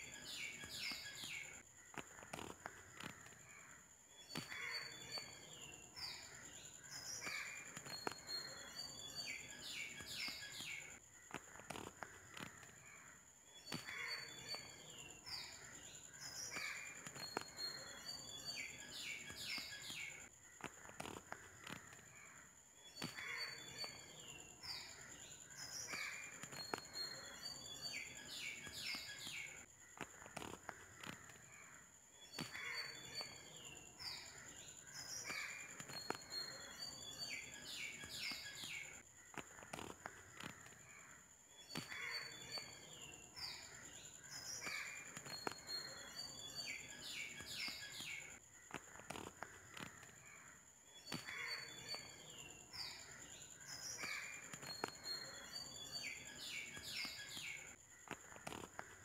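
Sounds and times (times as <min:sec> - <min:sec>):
faint birdsong: 0:00.0 - 0:59.0.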